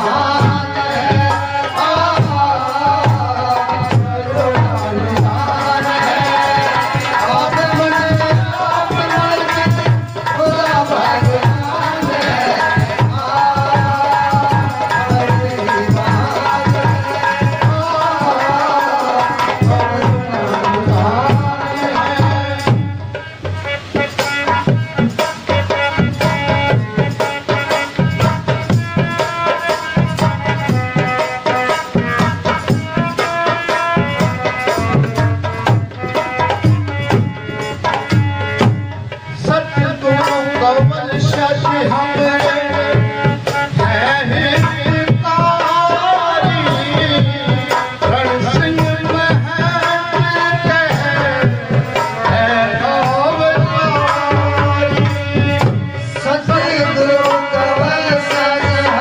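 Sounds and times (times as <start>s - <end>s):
dholak drums: 0.0s - 59.0s
harmonium: 0.0s - 59.0s
man singing: 0.0s - 59.0s.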